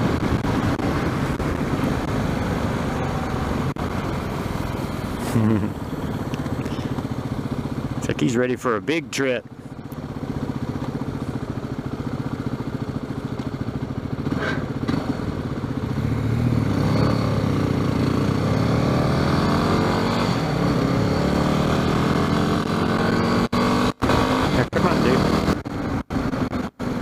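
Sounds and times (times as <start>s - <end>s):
motorcycle engine idling and accelerating: 0.0s - 27.0s.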